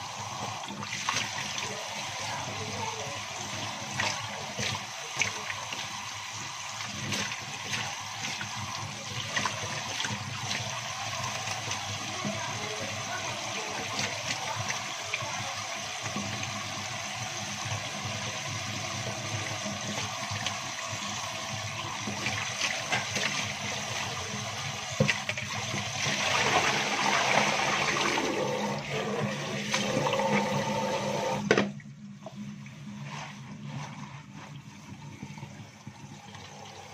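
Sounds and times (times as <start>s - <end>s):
tap water splashing into basin: 0.4s - 30.6s, 31.4s - 32.4s.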